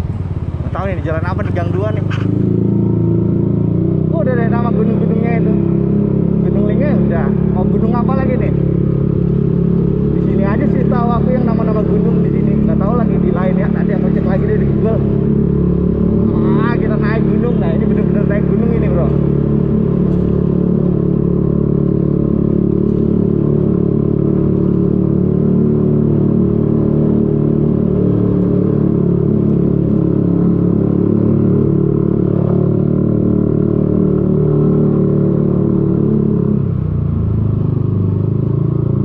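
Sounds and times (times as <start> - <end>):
scooter engine pulling uphill: 0.0 - 39.0.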